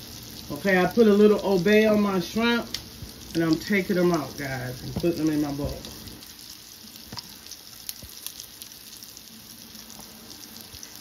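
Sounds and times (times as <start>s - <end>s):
shrimp sizzling in pan: 0.0s - 11.0s.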